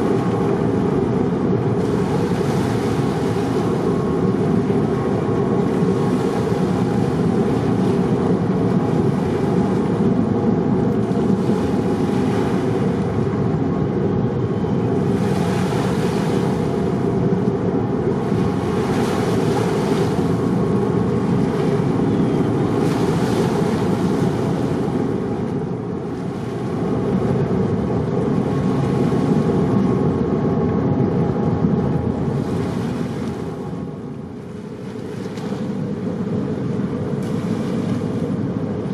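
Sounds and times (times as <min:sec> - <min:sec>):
rushing water: 0:00.0 - 0:38.9
ship engines rumbling: 0:00.0 - 0:38.9
wind on microphone: 0:00.0 - 0:38.9.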